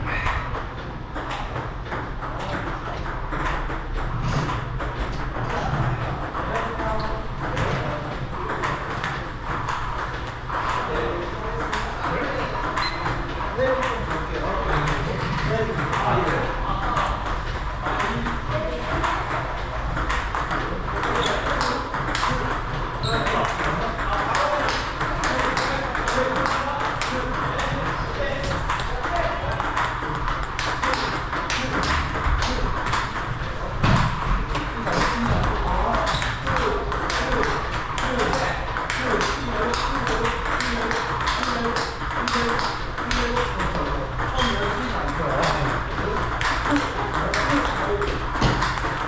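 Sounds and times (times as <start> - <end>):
busy hall background noise: 0.0 - 49.0
table tennis ball hits: 0.1 - 49.0.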